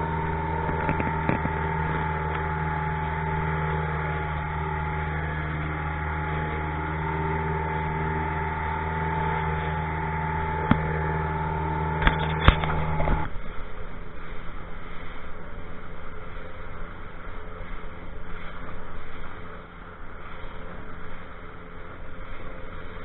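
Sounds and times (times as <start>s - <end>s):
boat motor droning: 0.0s - 23.0s
water rushing along hull: 0.0s - 23.0s
wind: 0.0s - 23.0s.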